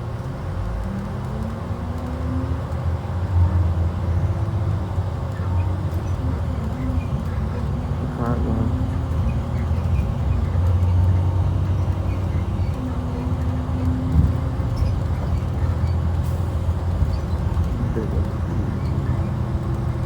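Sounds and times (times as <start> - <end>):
bus diesel engine drone: 0.0 - 20.0
road noise: 0.0 - 20.0.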